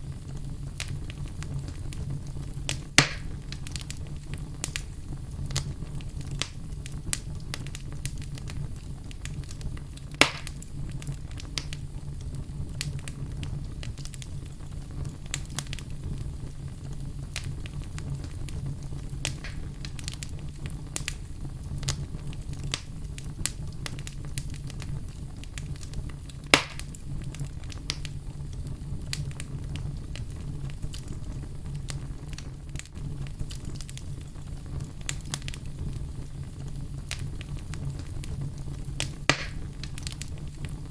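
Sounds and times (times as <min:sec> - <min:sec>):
fire crackling: 0:00.0 - 0:40.9
fire rumbling: 0:00.0 - 0:40.9
loud fire pops: 0:00.0 - 0:40.9.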